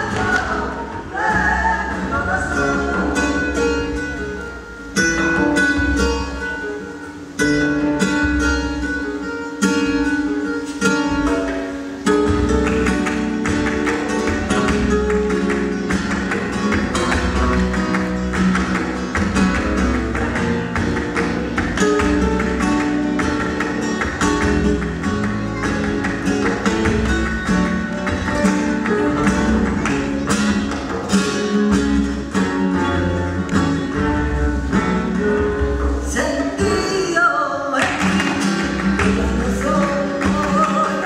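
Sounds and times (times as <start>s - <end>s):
flamenco guitar music: 0.0s - 41.0s.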